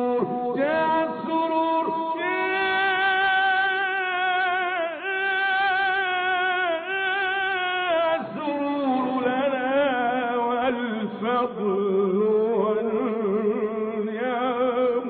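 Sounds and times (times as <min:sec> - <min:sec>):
man singing devotional chant: 0:00.0 - 0:15.0.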